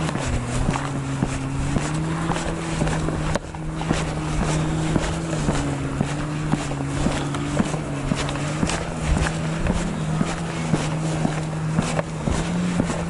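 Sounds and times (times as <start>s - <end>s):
footsteps walking: 0.0s - 13.0s
motor humming: 0.0s - 13.0s.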